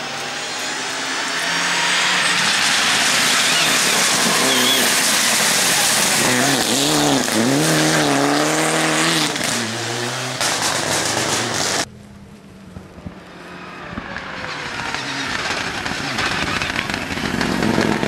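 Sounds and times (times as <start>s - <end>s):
rally car engine at speed: 0.0s - 18.0s.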